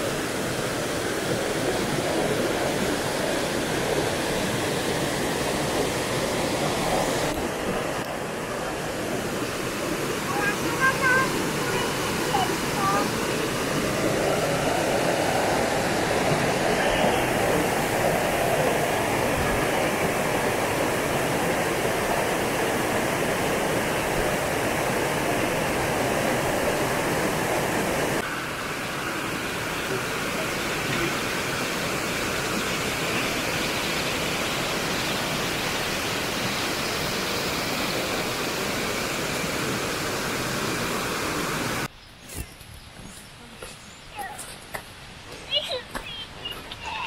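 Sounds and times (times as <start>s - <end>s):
waterfall rushing: 0.0s - 41.9s, 45.2s - 47.0s.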